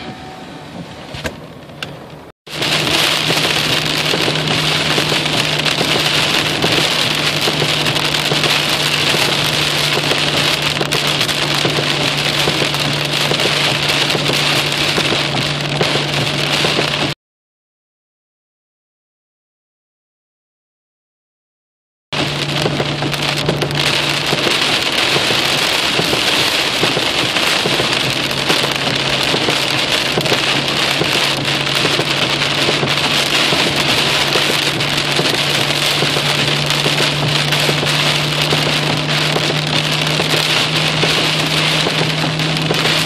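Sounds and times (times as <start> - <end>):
heavy rain falling: 2.5 - 17.2, 22.2 - 43.0.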